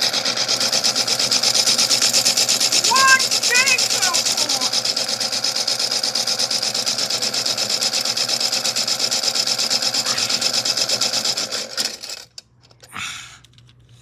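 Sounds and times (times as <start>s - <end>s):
toy washing machine motor rattling: 0.0s - 13.6s.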